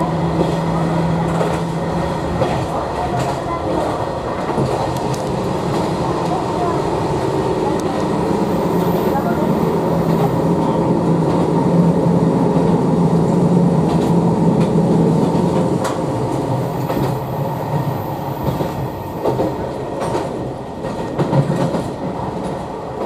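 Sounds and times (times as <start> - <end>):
train engine drone: 0.0 - 23.0.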